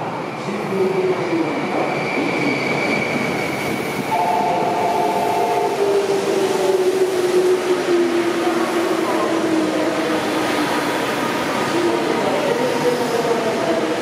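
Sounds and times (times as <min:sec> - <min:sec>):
train rumbling: 0:00.0 - 0:14.0
train squealing: 0:01.1 - 0:13.6.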